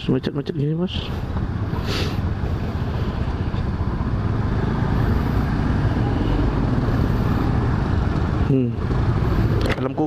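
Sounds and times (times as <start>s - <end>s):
scooter engine rumble: 0.9s - 10.0s.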